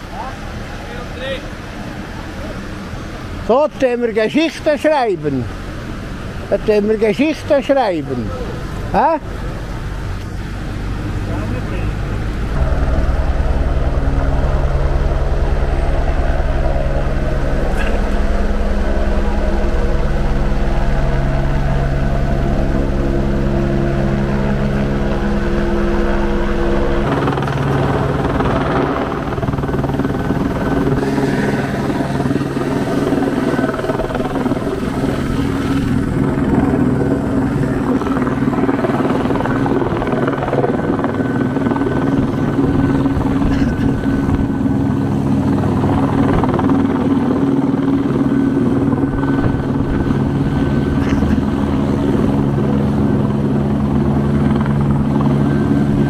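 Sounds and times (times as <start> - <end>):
helicopter hovering overhead: 0.0 - 56.0.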